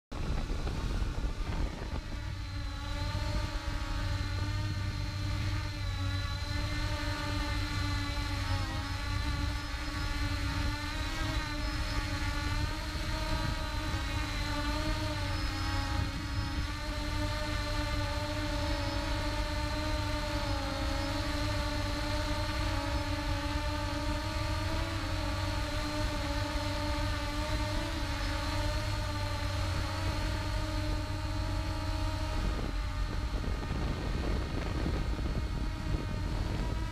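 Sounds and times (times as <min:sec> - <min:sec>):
drone propellers whirring: 0:00.1 - 0:36.9.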